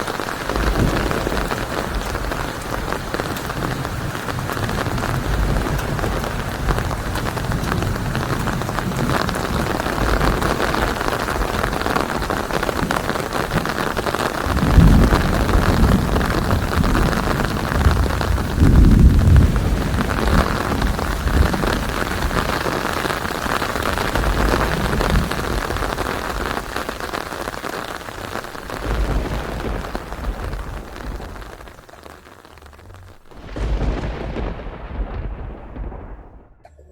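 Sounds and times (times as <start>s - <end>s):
rolling thunder: 0.0s - 36.7s
heavy rain: 0.0s - 36.9s.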